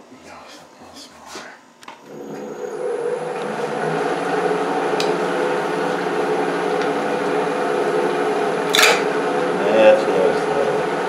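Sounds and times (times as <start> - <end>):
lathe motor humming: 1.9 - 11.0.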